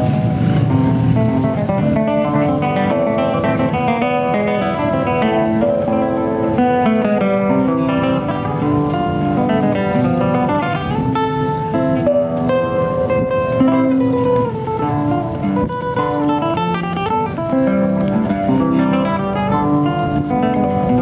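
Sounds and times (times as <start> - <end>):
classical guitar fingerstyle: 0.0 - 21.0.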